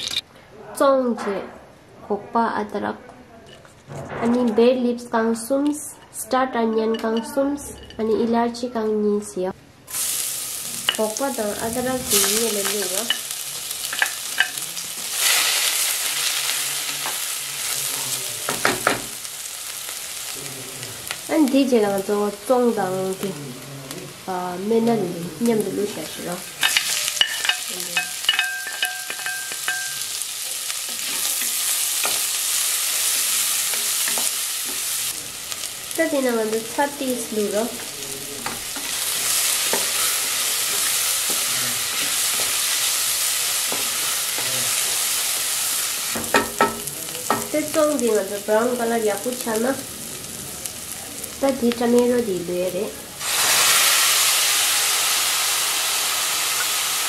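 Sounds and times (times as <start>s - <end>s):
onions sizzling in hot oil: 0.0s - 0.2s, 9.9s - 57.0s.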